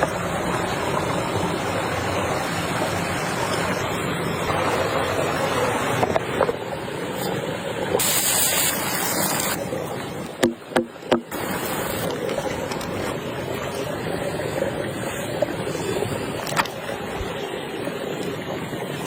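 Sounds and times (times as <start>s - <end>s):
rushing water: 0.0s - 19.0s
wind: 0.0s - 19.0s.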